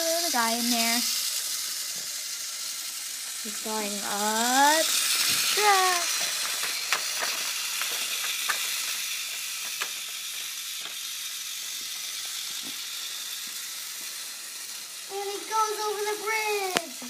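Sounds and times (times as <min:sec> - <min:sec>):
toy train clicking on track: 0:00.0 - 0:17.0
toy train motor hissing: 0:00.0 - 0:17.0.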